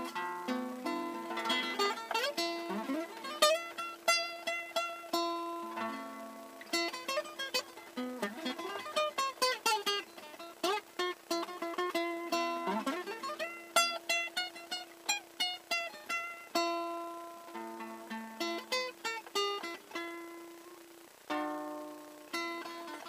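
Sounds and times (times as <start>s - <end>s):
classical guitar fingerstyle: 0.0s - 23.0s.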